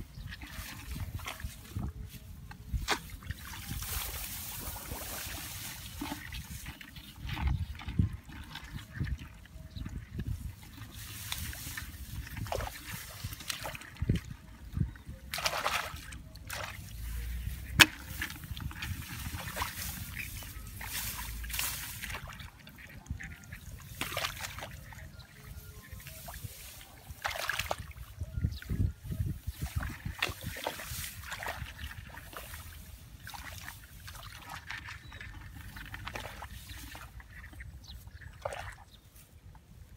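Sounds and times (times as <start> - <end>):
wind on microphone: 0.0 - 24.0, 25.0 - 34.2
digging through wet mud: 0.0 - 39.9
hand splashing in muddy water: 0.2 - 39.1
footsteps through rice stalks: 0.4 - 7.9, 10.2 - 13.9, 16.5 - 28.0, 28.7 - 39.9.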